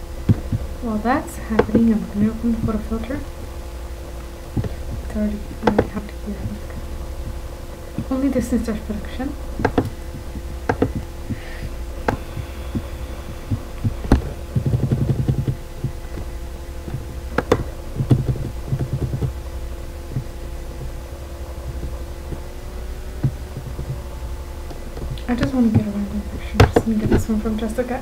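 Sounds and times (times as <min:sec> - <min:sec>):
low electrical hum: 0:00.0 - 0:28.0
rapid low rattling: 0:00.0 - 0:28.0.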